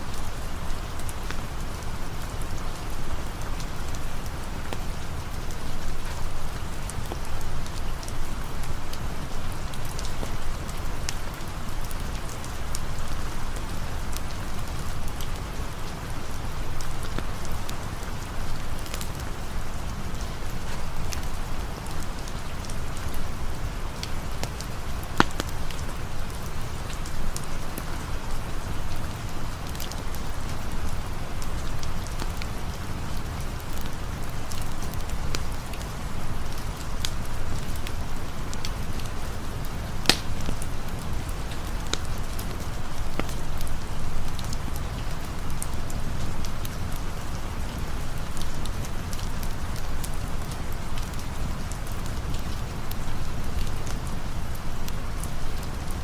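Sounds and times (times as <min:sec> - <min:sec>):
campfire crackling: 0:00.0 - 0:56.0
rain falling: 0:00.0 - 0:56.0.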